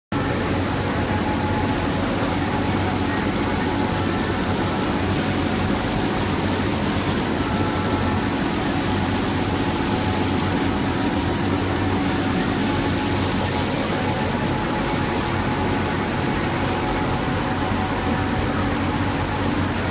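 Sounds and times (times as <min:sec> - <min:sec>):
machine humming: 0:00.1 - 0:19.9.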